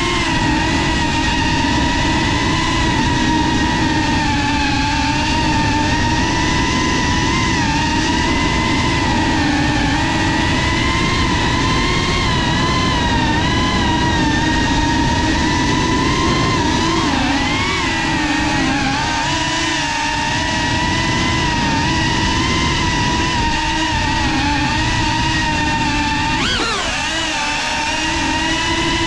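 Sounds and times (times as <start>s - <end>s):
drone motors and propellers whining: 0.0s - 29.0s.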